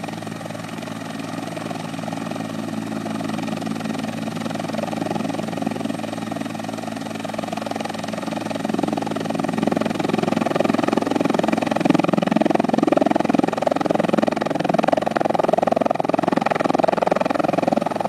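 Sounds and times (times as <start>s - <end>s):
helicopter drone: 0.0s - 18.0s.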